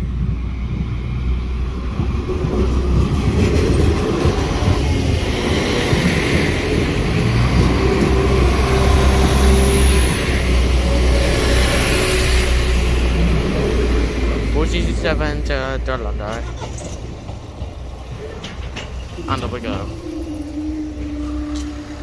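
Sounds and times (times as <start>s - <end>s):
train engine drone: 0.0s - 22.0s
train wheels rumbling on rails: 0.0s - 22.0s.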